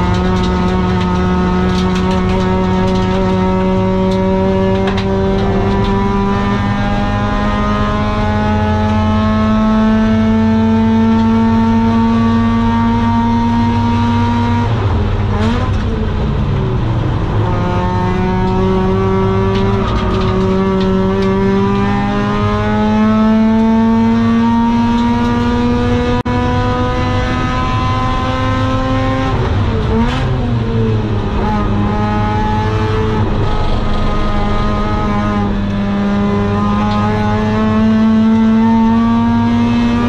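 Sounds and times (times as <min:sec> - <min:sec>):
rotary engine revving: 0:00.0 - 0:16.2, 0:17.0 - 0:40.0.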